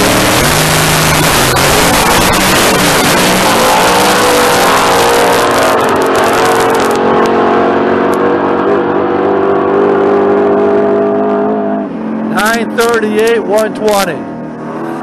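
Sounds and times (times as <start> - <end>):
harsh exhaust noise: 0.0 - 15.0
truck engine at full throttle: 0.0 - 15.0.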